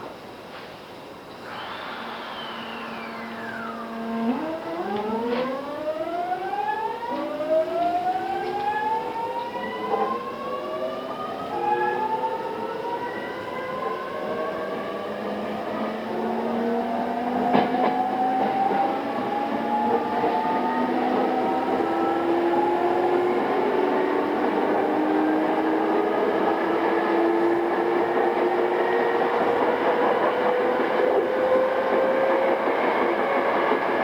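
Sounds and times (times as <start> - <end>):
electric train motor whine: 1.0 - 34.0.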